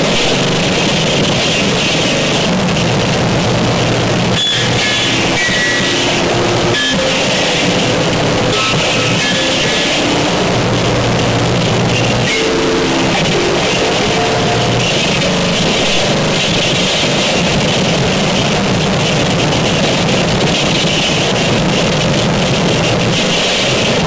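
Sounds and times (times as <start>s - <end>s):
distorted noise wall: 0.0s - 24.0s
held droning tones: 0.0s - 24.0s.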